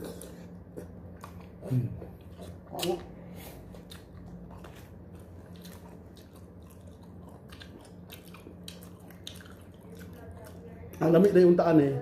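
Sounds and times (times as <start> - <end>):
chewing and mouth clicks: 0.0 - 11.4
faint low hum: 0.0 - 12.0.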